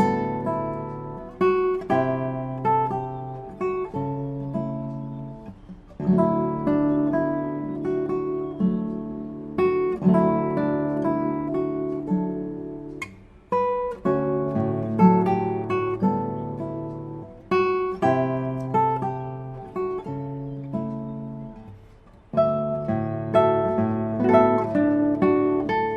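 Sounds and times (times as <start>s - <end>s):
solo acoustic guitar: 0.0s - 25.9s.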